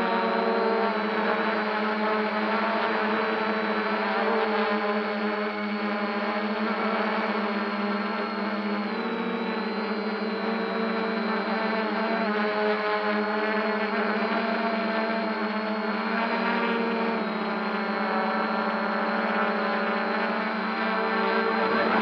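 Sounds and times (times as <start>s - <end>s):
drone motors buzzing: 0.0s - 22.0s.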